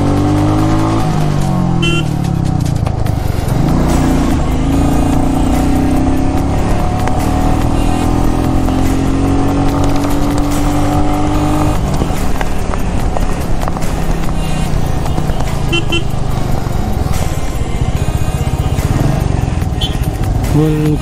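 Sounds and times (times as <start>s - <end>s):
motorcycle engine accelerating: 0.0s - 21.0s
road and wind noise: 0.0s - 21.0s.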